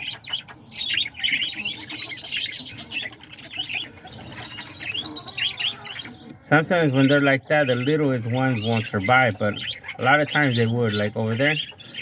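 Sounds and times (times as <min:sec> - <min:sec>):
parakeets chattering: 0:00.0 - 0:12.0.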